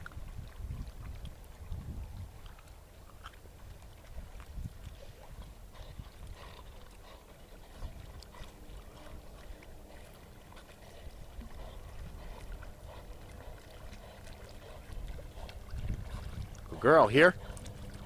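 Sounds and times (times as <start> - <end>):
water splashing and sloshing: 0.0 - 18.0
wind rumble on microphone: 0.0 - 18.0.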